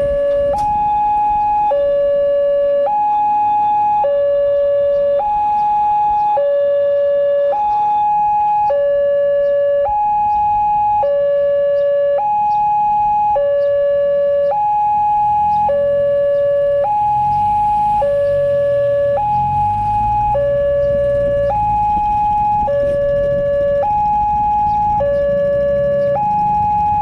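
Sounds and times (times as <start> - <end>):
two-tone crossing alarm: 0.0 - 27.0.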